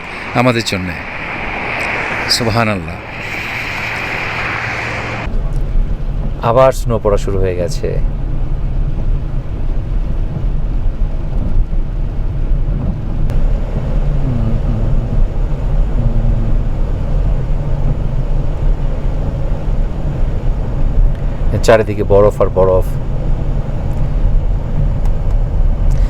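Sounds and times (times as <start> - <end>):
car interior road and engine rumble: 0.0 - 26.0.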